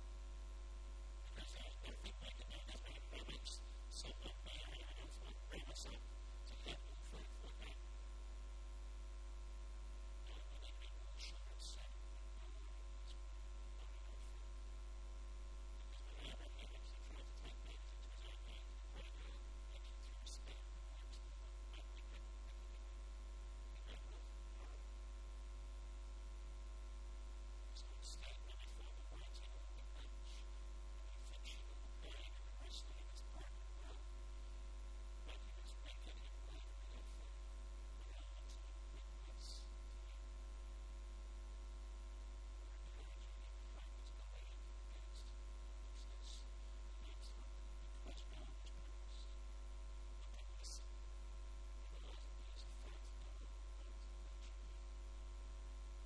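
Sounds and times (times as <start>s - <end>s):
low electrical mains hum: 0.0s - 56.0s.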